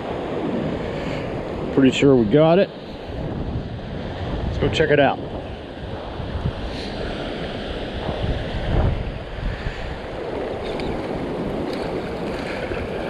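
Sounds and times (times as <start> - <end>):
surf washing over shallows: 0.0 - 13.0
wind buffeting microphone: 0.0 - 13.0.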